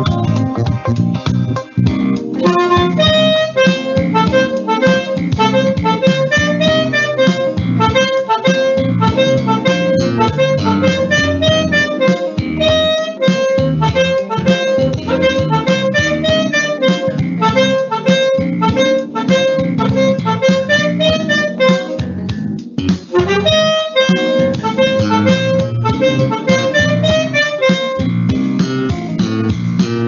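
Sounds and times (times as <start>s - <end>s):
chordal backing track: 0.0s - 30.0s
alto saxophone melody: 2.4s - 22.3s, 23.1s - 28.3s.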